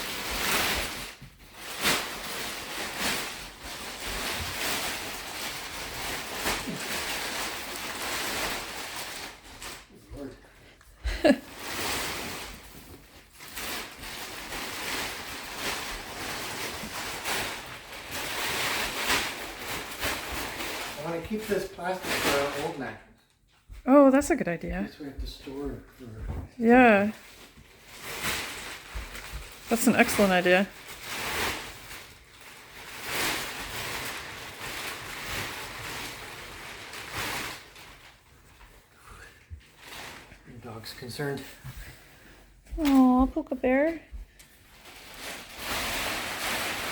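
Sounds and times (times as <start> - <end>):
plastic wrapping crinkling: 0.0 - 10.4, 11.0 - 23.0, 26.6 - 46.9.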